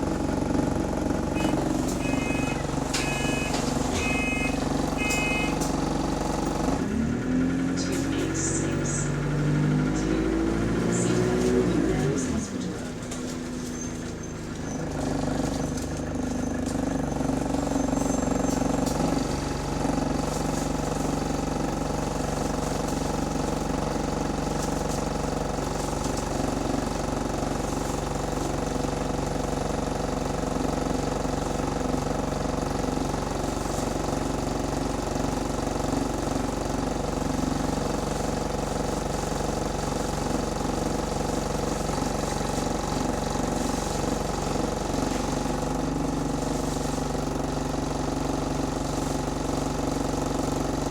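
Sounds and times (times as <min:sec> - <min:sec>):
bus engine running: 0:00.0 - 0:50.9.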